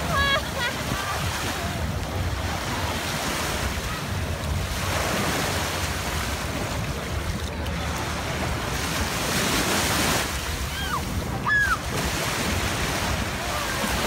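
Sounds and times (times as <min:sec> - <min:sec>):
ocean waves washing on sand: 0:00.0 - 0:14.0.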